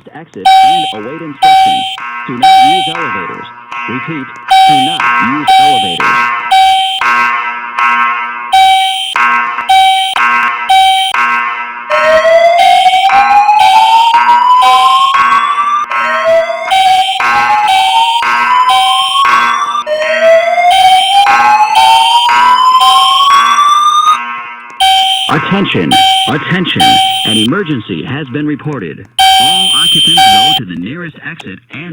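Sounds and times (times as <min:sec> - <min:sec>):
pulsing fire alarm horn: 0:00.4 - 0:03.3, 0:04.4 - 0:27.5, 0:29.2 - 0:30.6.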